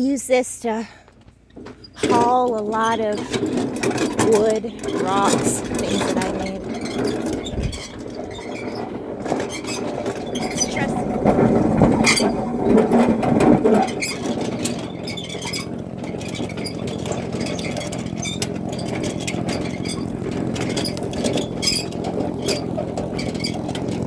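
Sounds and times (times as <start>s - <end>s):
engine idling: 0.7s - 24.0s
rattling clicks: 1.1s - 24.0s
scraping rustling: 1.2s - 24.0s.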